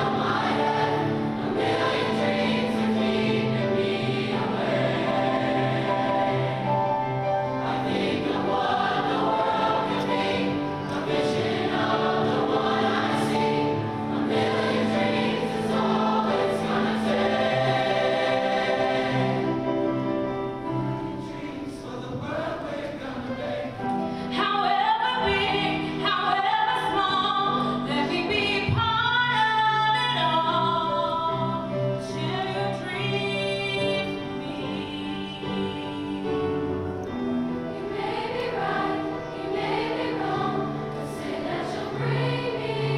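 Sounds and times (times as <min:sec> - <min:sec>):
choir singing in harmony: 0:00.0 - 0:42.9.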